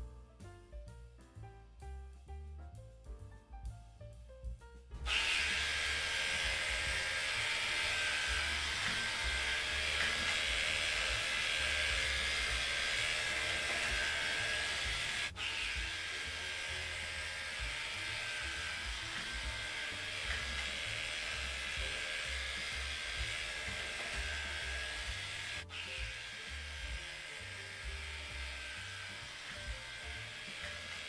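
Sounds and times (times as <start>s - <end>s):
electric dog clipper cutting fur: 5.0s - 31.0s.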